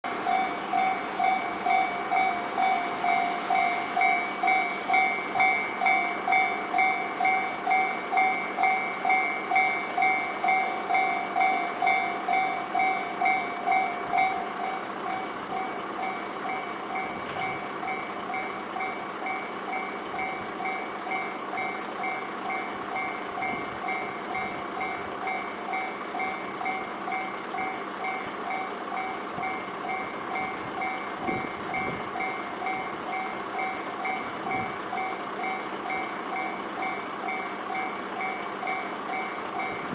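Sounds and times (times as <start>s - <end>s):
level crossing warning bell: 0.1s - 39.9s.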